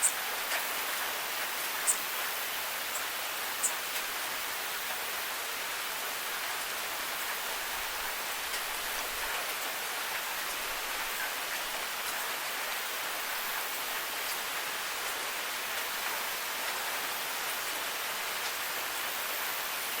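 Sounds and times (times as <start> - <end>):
rain on hard surfaces: 0.0 - 20.0.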